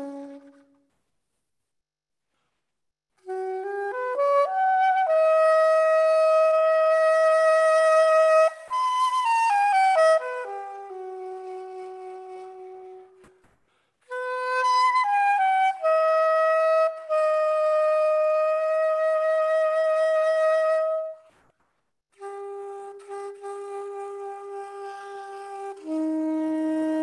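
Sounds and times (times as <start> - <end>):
soprano saxophone solo: 0.0 - 0.9, 3.2 - 21.4, 22.2 - 27.0.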